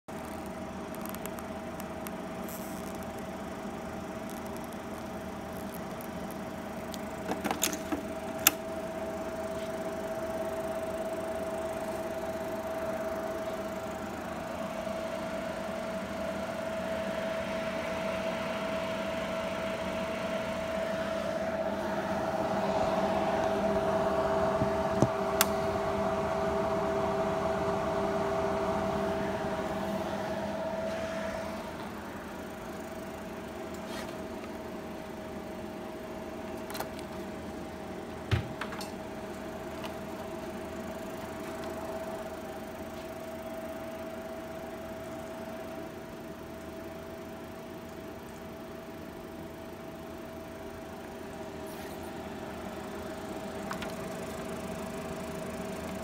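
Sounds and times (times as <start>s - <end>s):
cooling fans humming: 0.1s - 56.0s.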